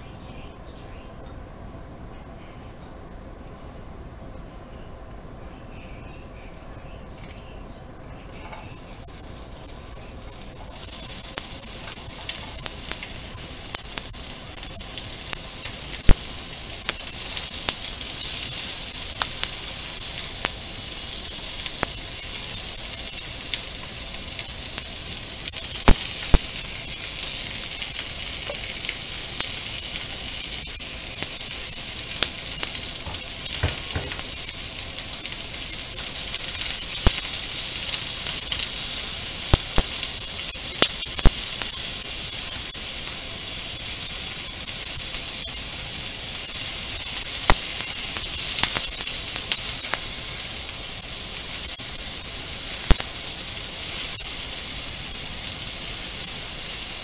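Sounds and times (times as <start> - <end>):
meat and vegetables sizzling in pan: 8.3 - 57.0.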